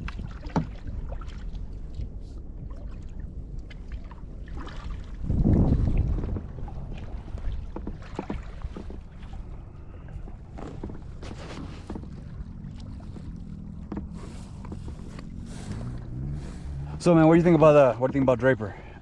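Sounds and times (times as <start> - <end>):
steady low rumble: 0.0 - 8.1, 9.0 - 19.0
paddle splashing in water: 0.0 - 19.0.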